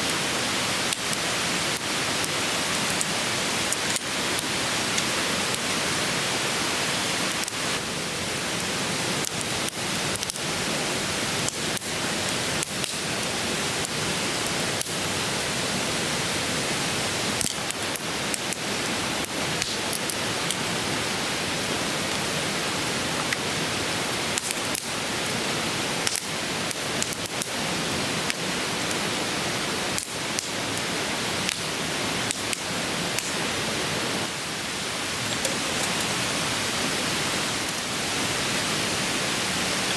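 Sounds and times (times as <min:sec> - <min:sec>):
campfire crackling and popping: 0:00.0 - 0:15.8, 0:17.2 - 0:36.8, 0:37.5 - 0:37.9
stream rushing: 0:00.0 - 0:39.9.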